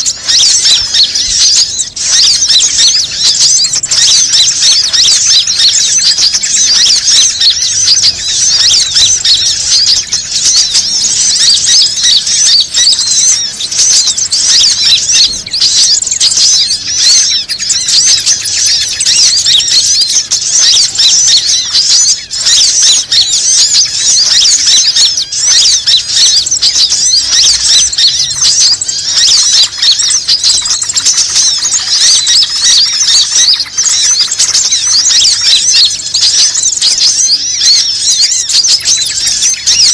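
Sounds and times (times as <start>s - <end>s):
small birds chirping and squeaking: 0.0s - 39.9s.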